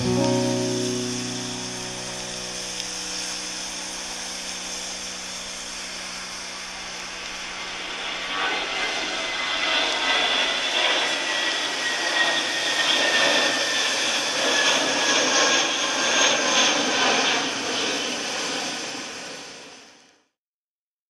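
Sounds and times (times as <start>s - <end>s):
faint descending engine whine: 0.0s - 19.8s
jet airliner roaring: 0.0s - 20.0s.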